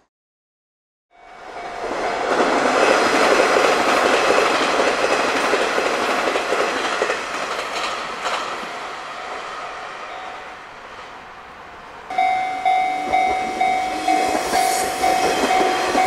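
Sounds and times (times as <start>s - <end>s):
electric train passing: 1.1s - 16.0s.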